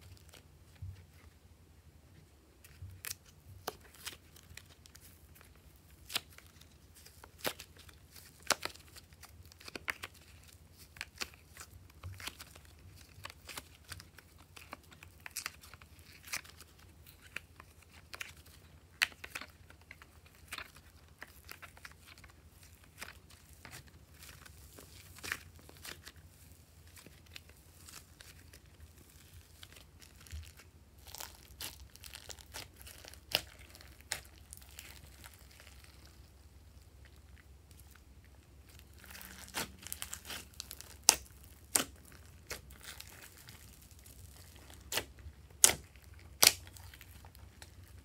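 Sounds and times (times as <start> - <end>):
slime squished by hand: 2.7 - 36.3, 38.7 - 48.0.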